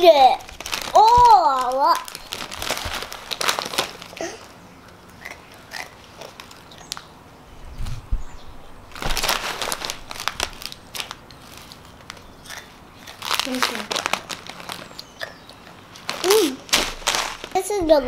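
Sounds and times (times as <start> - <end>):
plastic snack bag crinkling: 0.0 - 4.5, 5.2 - 7.0, 8.9 - 17.7.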